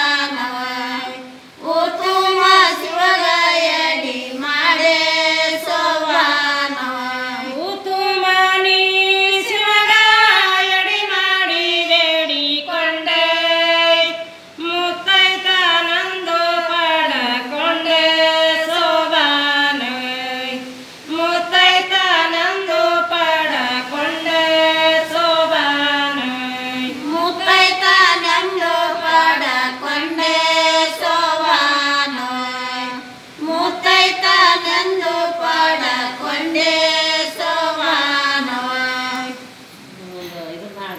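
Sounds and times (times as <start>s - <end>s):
women singing unaccompanied: 0.0s - 40.3s.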